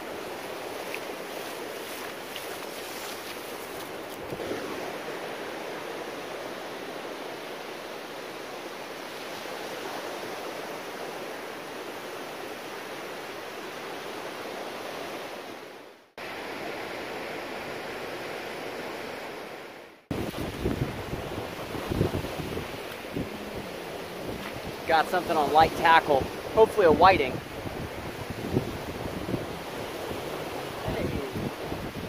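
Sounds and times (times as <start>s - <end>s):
ocean surf breaking on beach: 0.0s - 32.0s.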